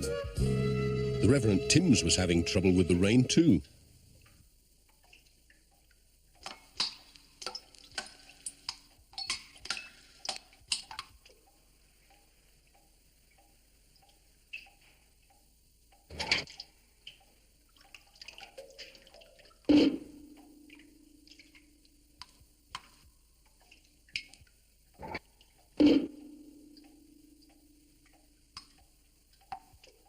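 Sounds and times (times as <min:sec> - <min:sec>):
water dripping into metal pots: 0:03.3 - 0:30.0.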